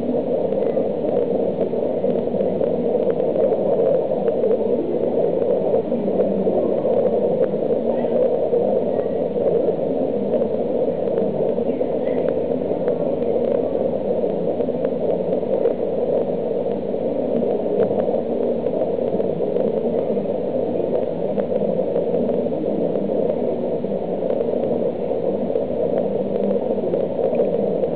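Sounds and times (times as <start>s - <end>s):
water circulating through filtration: 0.0s - 27.9s.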